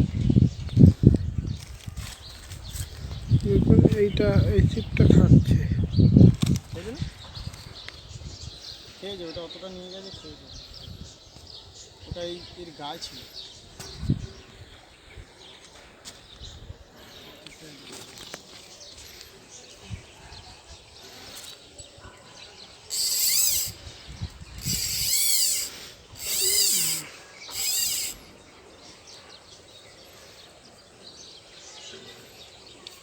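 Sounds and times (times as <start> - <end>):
quiet outdoor background: 0.0 - 33.0.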